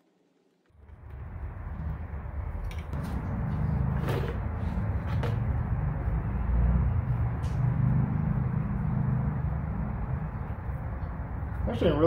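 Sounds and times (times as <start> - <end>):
low rumble: 0.7 - 11.7.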